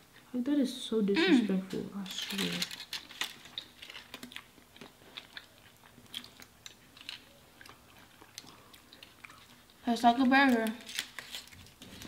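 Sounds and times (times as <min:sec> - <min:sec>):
people chewing food: 0:01.7 - 0:12.0.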